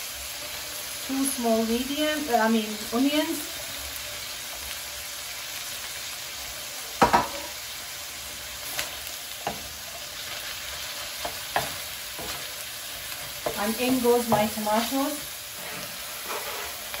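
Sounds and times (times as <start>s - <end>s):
mince and onions sizzling in oil: 0.0s - 17.0s.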